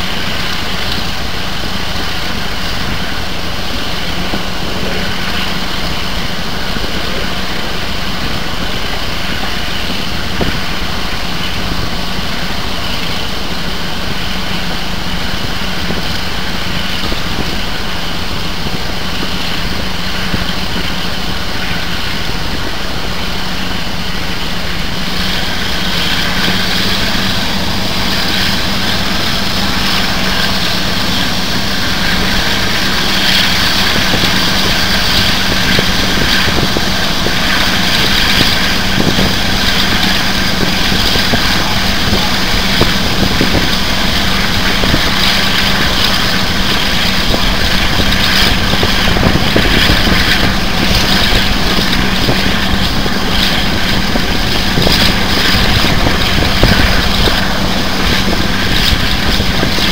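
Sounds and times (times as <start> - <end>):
diesel locomotive engine hum: 0.0 - 59.9
train wheel noise: 0.0 - 59.9.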